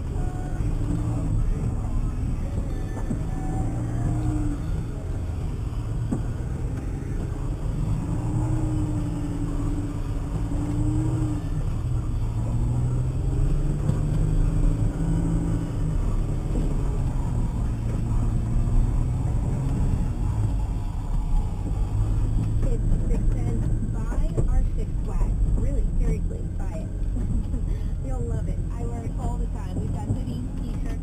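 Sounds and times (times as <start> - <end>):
engine revving under load: 0.0 - 31.0
low rumble: 0.0 - 31.0.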